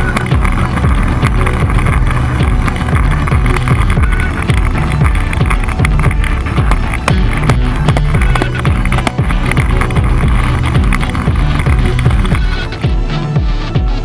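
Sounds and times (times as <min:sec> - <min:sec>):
skateboard wheels rolling on asphalt: 0:00.0 - 0:13.8.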